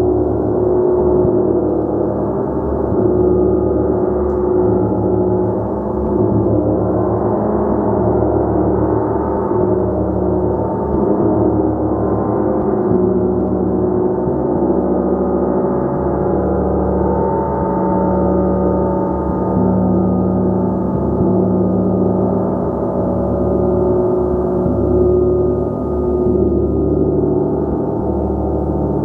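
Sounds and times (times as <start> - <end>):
gong wash of overlapping tones: 0.0 - 29.0.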